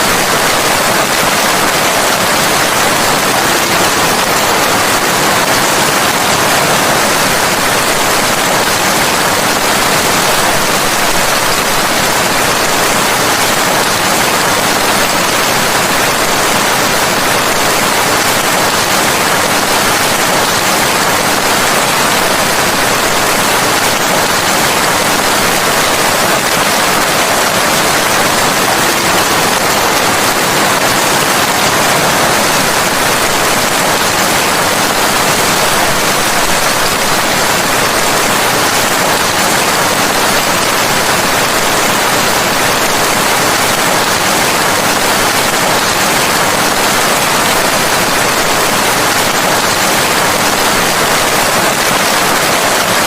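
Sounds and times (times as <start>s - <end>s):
heavy rain hiss: 0.0s - 53.0s.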